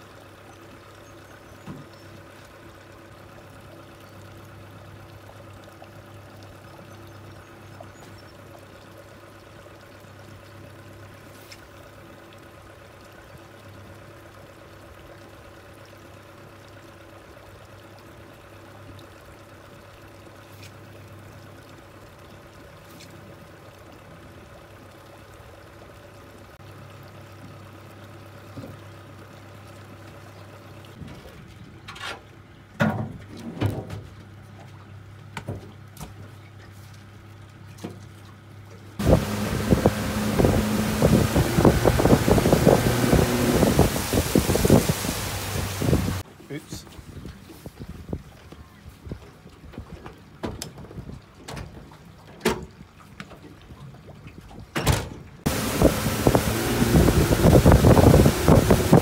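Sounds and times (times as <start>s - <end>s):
river water lapping against hull: 0.0s - 59.0s.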